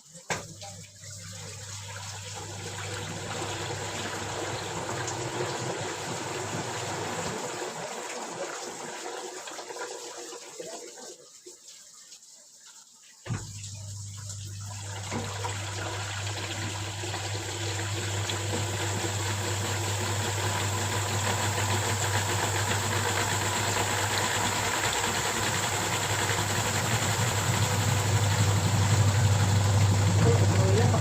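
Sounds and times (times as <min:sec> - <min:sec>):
washing machine running: 0:00.3 - 0:10.2, 0:13.3 - 0:31.0
washing machine churning: 0:00.3 - 0:11.0, 0:13.3 - 0:31.0.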